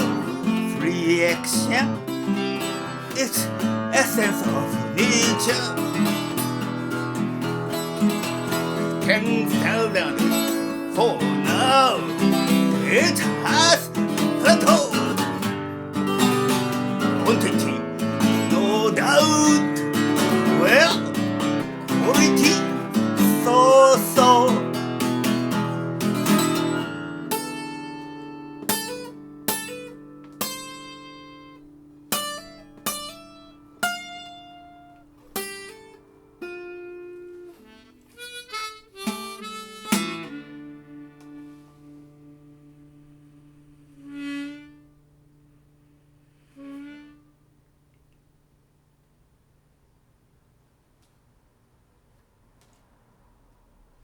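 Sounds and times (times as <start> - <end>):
instrumental music: 0.0 - 48.2.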